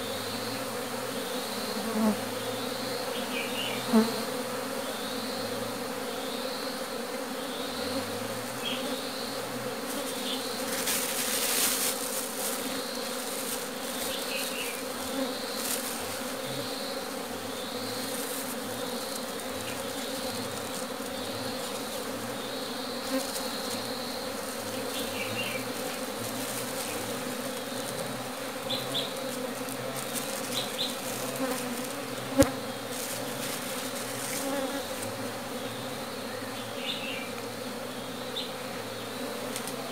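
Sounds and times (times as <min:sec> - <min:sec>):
honeybees buzzing: 0:00.0 - 0:39.9
rustle: 0:00.0 - 0:39.9.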